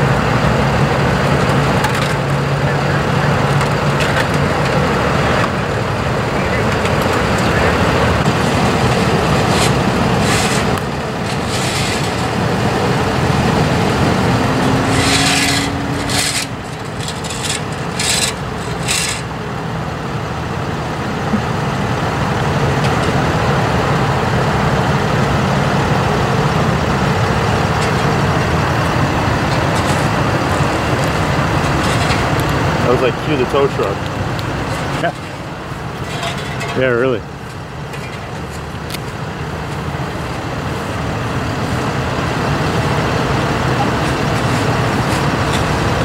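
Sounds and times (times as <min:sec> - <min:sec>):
road traffic noise: 0:00.0 - 0:46.0
tow truck engines running: 0:00.0 - 0:46.0.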